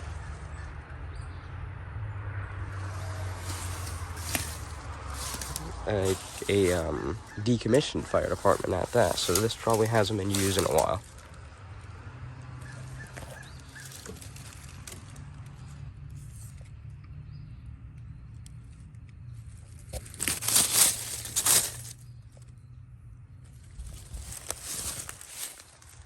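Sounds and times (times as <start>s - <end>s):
steady low rumble: 2.5s - 26.0s.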